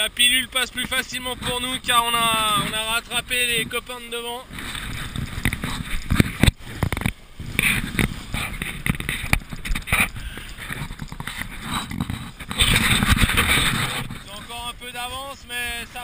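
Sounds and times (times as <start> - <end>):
water rushing along hull: 0.0 - 16.0
wind buffeting microphone: 0.6 - 16.0.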